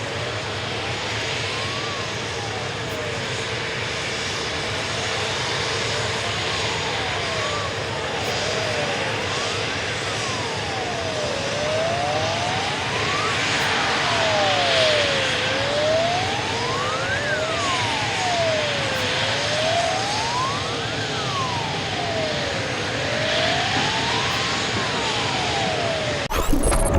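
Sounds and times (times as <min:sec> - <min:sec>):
emergency siren wailing: 0:00.0 - 0:26.9.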